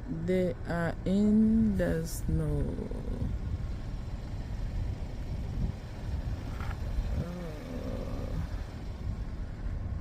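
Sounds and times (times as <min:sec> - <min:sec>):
moving vehicle rumble: 0:00.0 - 0:10.0.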